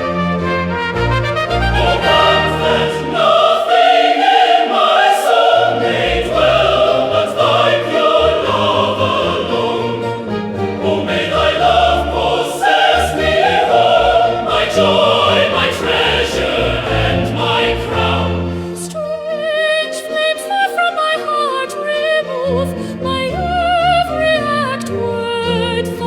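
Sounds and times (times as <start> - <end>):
orchestral accompaniment: 0.0 - 26.0
choir singing a hymn: 1.3 - 24.5.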